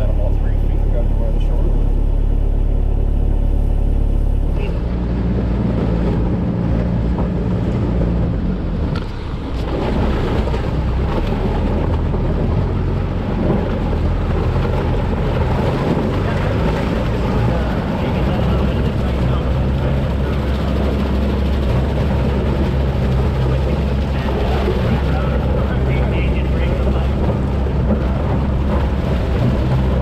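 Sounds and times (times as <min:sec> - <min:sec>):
tyres splashing through water and ice: 0:00.0 - 0:30.0
vehicle engine running: 0:00.0 - 0:30.0.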